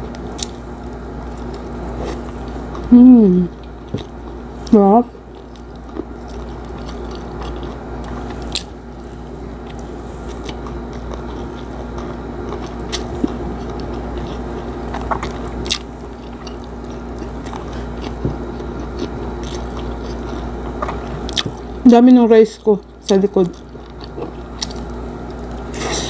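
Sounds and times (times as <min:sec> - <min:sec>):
person chewing food: 0:00.0 - 0:21.8, 0:22.8 - 0:26.0.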